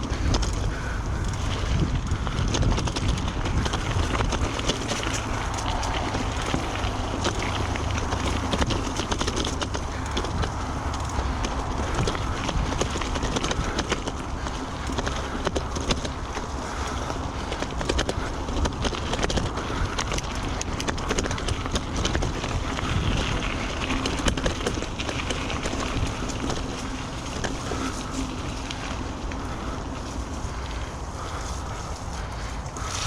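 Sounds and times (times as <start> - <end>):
bike rattles and knocks: 0.0 - 33.0
bike tyre rumble: 0.0 - 33.0
wind buffeting microphone: 0.0 - 33.0.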